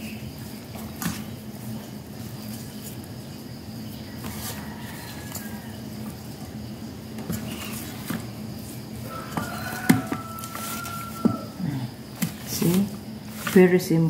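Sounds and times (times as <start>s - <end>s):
hands rubbing wet chicken skin: 0.0s - 6.6s, 7.2s - 13.8s.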